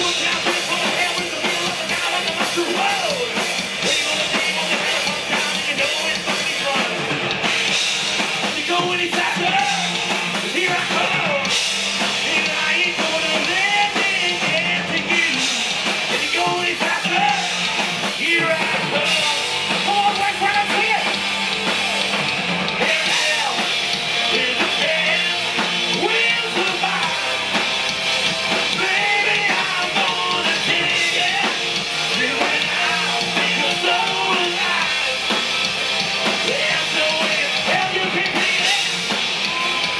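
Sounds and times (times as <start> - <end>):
lead singer singing: 0.0 - 7.2, 8.4 - 21.2, 22.8 - 27.4, 28.6 - 35.4, 36.2 - 39.9
distorted electric guitars: 0.0 - 39.9
drum kit: 0.0 - 39.9.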